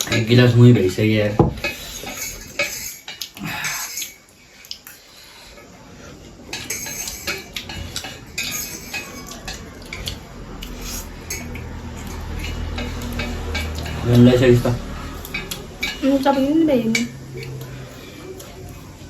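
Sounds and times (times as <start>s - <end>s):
metal utensils clinking on bowl: 0.0s - 5.1s, 6.3s - 19.0s.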